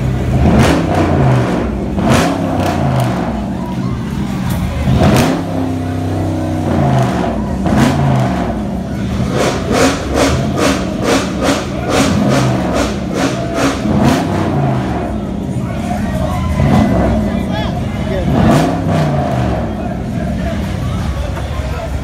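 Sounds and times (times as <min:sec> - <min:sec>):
bass-heavy music with beat: 0:00.0 - 0:21.1
car engines running: 0:00.0 - 0:22.0.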